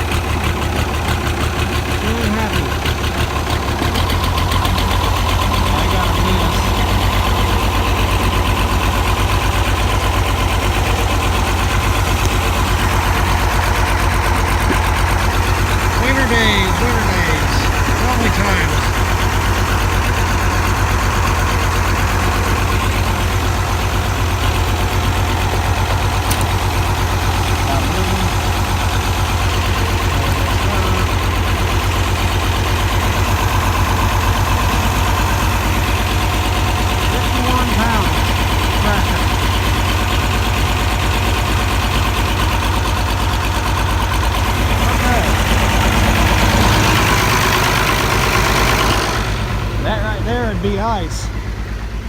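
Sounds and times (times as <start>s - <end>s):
tractor engine idling: 0.0s - 52.0s.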